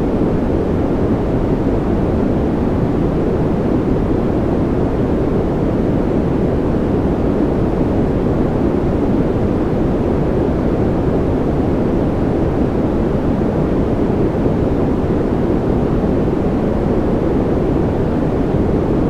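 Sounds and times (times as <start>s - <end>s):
deep steady noise rush: 0.0s - 19.0s.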